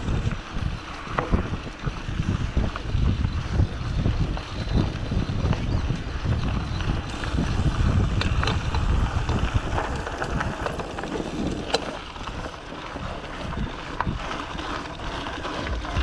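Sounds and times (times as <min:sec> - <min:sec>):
bicycle tyre noise: 0:00.0 - 0:16.0
bike clicks and rattles: 0:00.0 - 0:16.0
wind buffeting microphone: 0:00.0 - 0:16.0.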